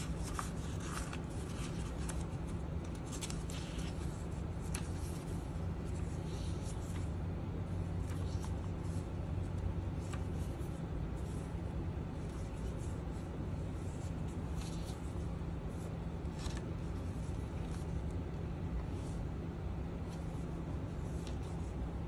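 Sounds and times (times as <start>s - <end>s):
paper pages turning: 0.0s - 7.2s, 7.8s - 13.2s, 13.8s - 19.2s, 20.0s - 21.9s.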